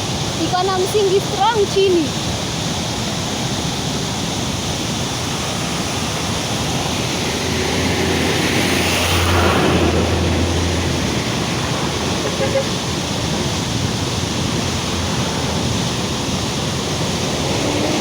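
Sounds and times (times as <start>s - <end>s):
floodwater rushing roar: 0.0s - 18.0s.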